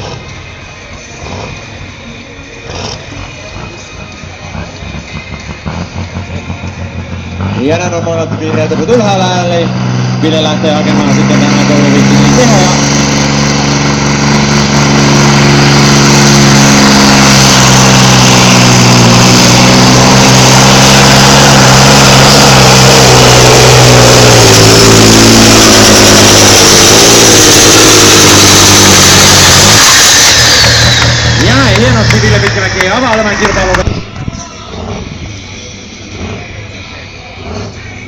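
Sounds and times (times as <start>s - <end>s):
diesel engine running flat out: 0.0s - 38.0s.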